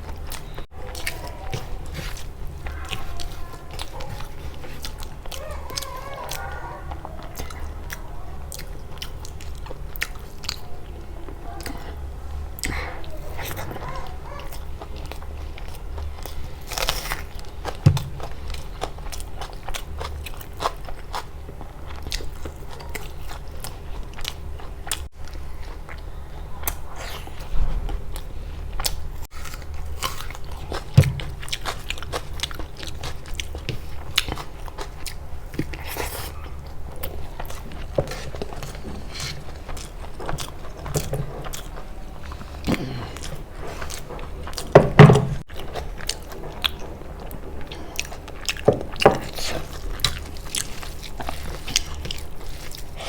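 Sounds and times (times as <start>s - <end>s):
biting and chewing crunches: 0.0s - 10.9s, 11.5s - 27.5s, 28.1s - 53.0s.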